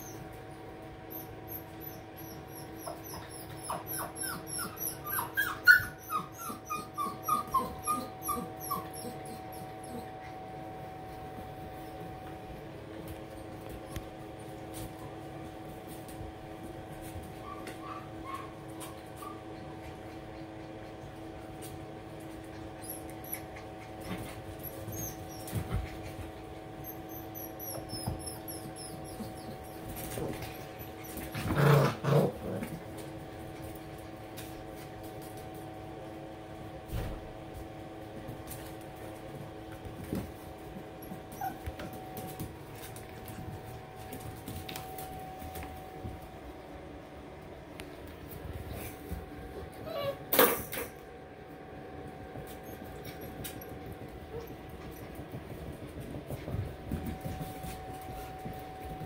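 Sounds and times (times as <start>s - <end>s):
puppies scuffling: 0.2s - 59.0s
steady hum: 5.0s - 59.0s.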